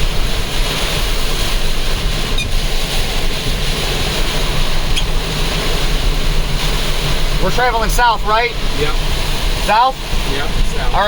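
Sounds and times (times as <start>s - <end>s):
low rumble: 0.0s - 11.0s
tyre and wind noise: 0.0s - 11.0s.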